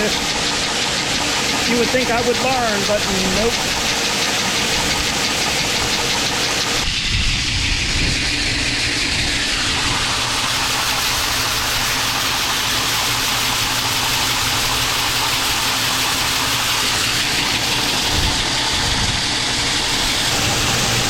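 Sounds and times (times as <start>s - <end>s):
engine idling hum: 0.0s - 21.0s
fan rushing: 0.0s - 21.0s.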